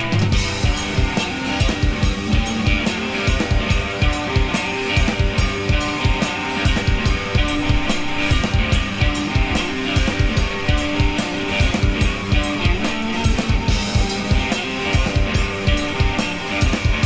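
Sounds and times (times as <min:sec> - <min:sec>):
drum kit beat: 0:00.0 - 0:17.0
held electric guitar notes: 0:00.0 - 0:17.0.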